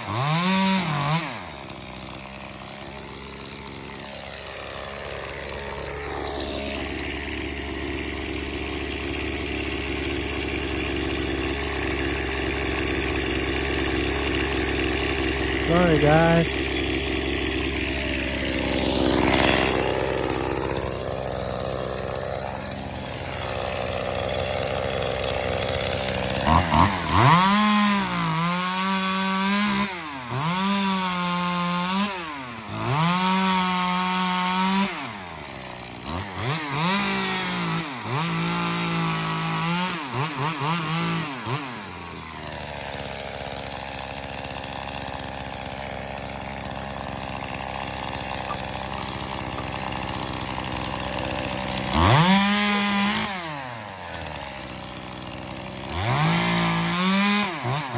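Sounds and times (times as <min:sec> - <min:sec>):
chainsaw idling and revving: 0:00.0 - 0:57.9.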